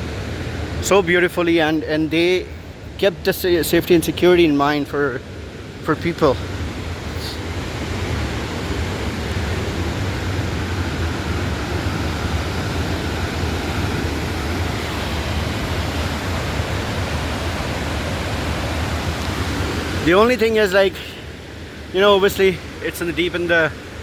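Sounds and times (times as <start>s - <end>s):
waterfall roaring: 3.1s - 24.0s.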